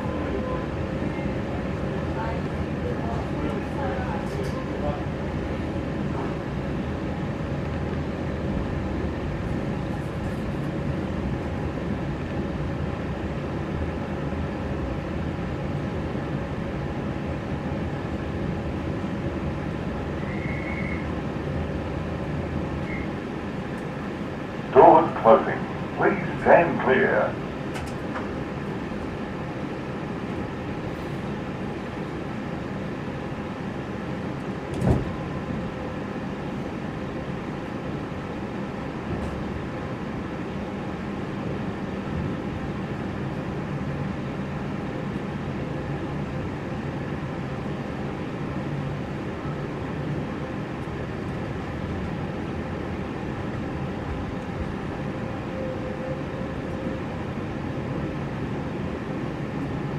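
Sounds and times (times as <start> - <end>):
train rumble inside carriage: 0.0 - 59.9.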